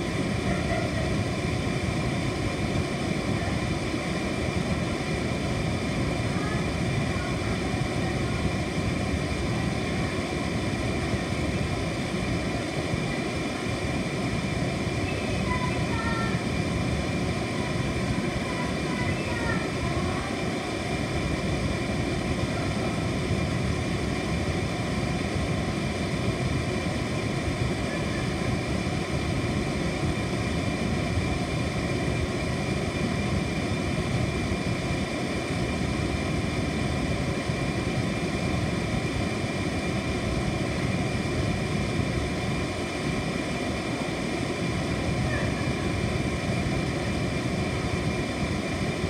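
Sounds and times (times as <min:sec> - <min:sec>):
air conditioner running: 0:00.0 - 0:49.0.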